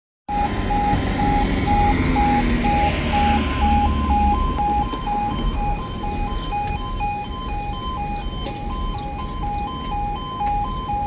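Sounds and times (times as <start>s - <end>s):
car driving over crossing: 0.3s - 11.0s
level crossing alarm tones: 0.3s - 11.0s.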